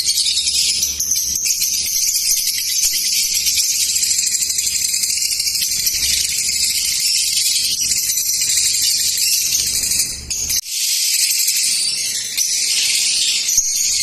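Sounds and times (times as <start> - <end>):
birds chirping and chattering: 0.0 - 14.0.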